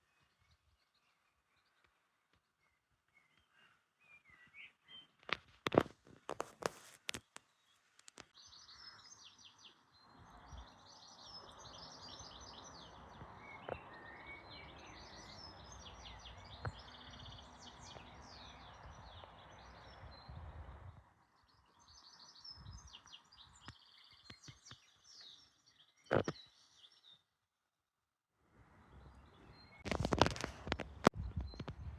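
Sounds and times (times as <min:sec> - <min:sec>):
small birds chirping: 0:00.0 - 0:27.4, 0:28.7 - 0:31.9.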